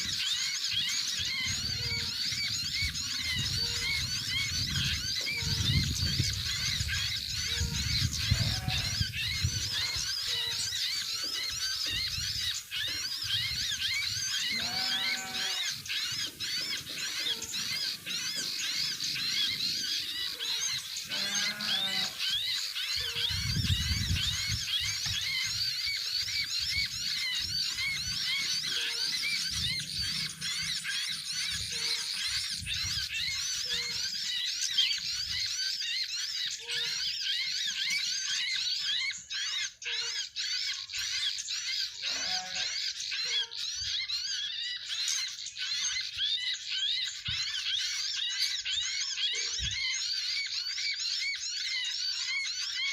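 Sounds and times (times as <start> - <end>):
lower bird calls: 0.0 - 52.9
small birds chirping: 0.0 - 52.9.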